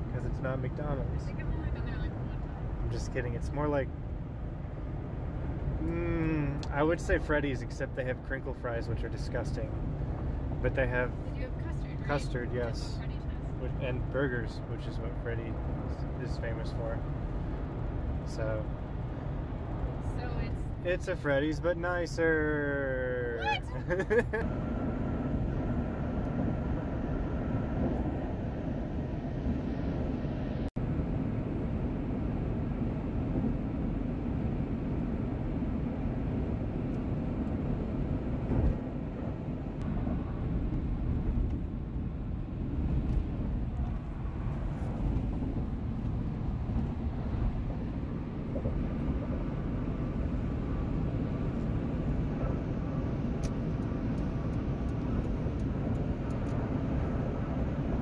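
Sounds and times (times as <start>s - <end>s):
road and engine rumble inside car: 0.0s - 58.0s.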